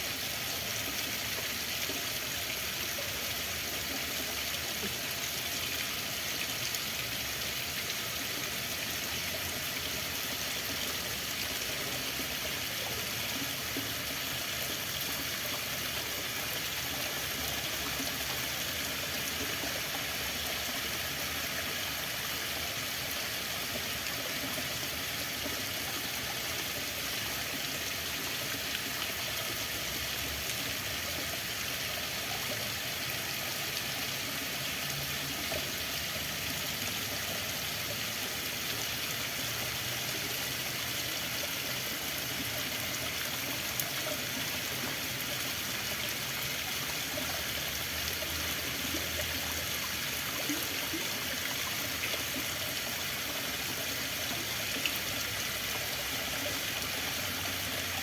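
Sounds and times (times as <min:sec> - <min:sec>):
running water flowing: 0:00.0 - 0:58.0.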